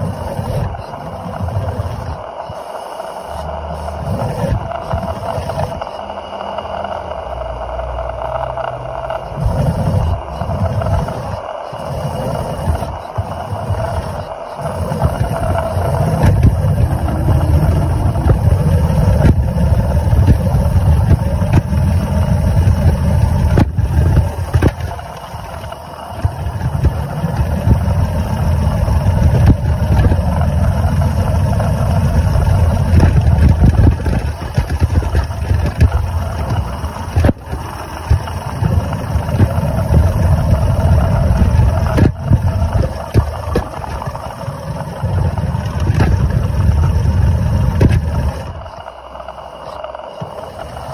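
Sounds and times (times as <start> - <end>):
steam engine low rough rumble: 0.0 - 50.9.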